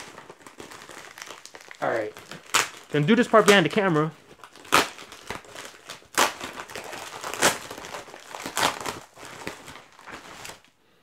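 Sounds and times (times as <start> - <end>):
package being torn open: 0.0 - 10.7
wrapping crinkling: 0.0 - 10.8.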